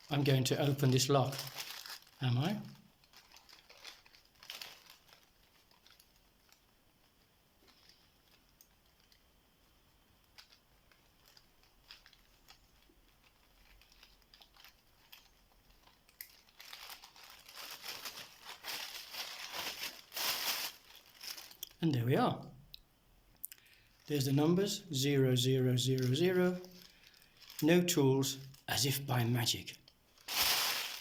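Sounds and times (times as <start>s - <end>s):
plastic bag crinkling: 0.0s - 21.8s, 23.6s - 31.0s.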